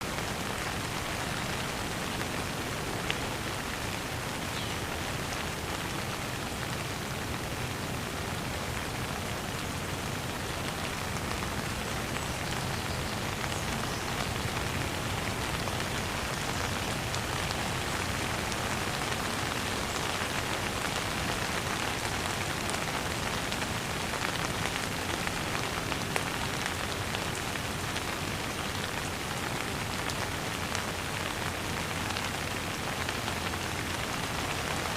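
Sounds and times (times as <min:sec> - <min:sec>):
rain on a hard surface: 0:00.0 - 0:34.9.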